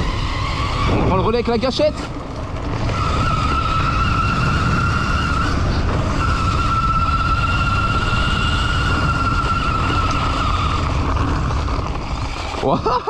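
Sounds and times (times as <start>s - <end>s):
electric motor whining: 0.0s - 13.0s
tyre noise on dirt: 0.0s - 13.0s
wind rumble on microphone: 0.0s - 13.0s.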